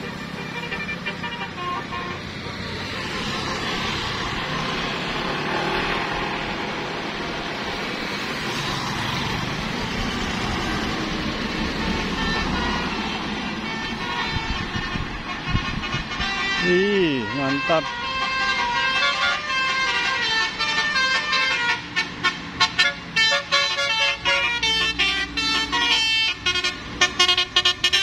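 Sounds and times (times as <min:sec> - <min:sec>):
motorcycles passing: 0:00.0 - 0:28.0.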